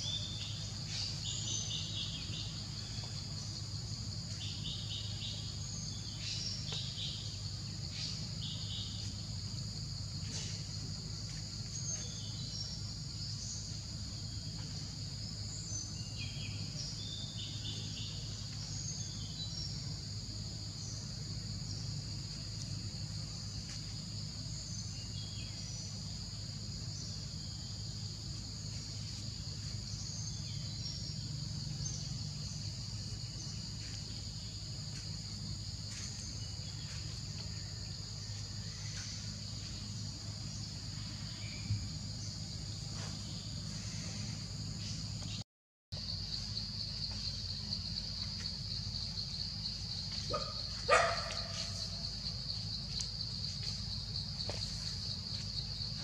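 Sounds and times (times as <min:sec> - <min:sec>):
high-pitched insect chorus: 0:00.0 - 0:45.4, 0:46.0 - 0:56.0
low steady hum: 0:00.0 - 0:45.4.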